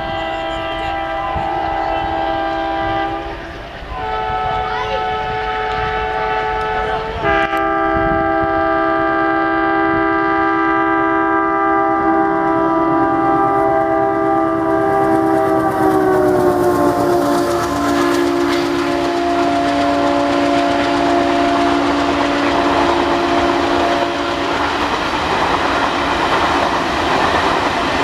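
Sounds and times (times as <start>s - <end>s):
locomotive air horn blast: 0.0s - 24.8s.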